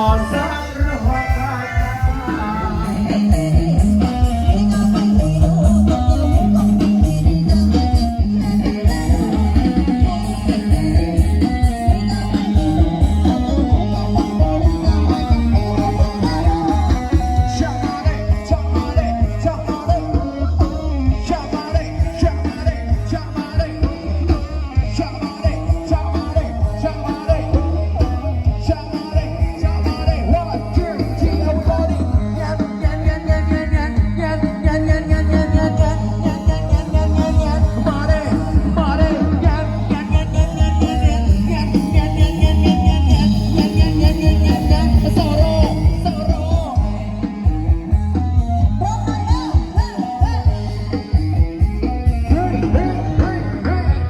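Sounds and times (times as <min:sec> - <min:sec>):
heavy pulsing bass beat: 0:00.0 - 0:54.0.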